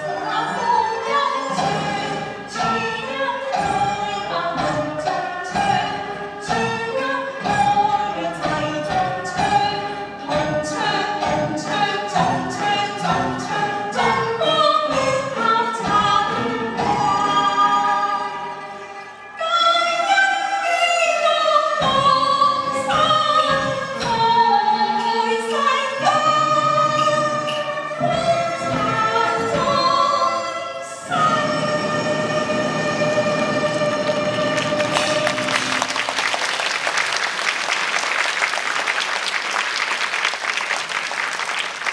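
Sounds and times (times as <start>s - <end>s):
woman singing a hymn: 0.0s - 18.5s, 19.4s - 35.5s
traditional orchestra bowed and plucked: 0.0s - 36.1s.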